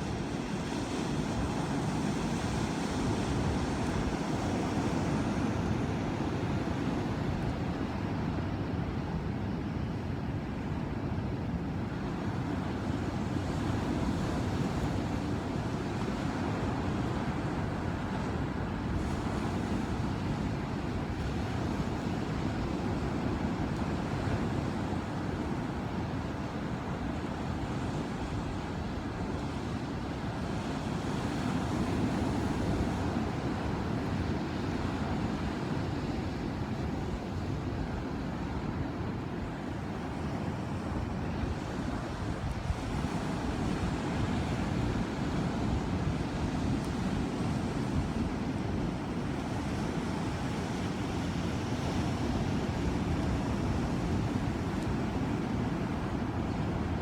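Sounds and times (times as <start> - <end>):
ocean waves and surf: 0.0 - 57.0.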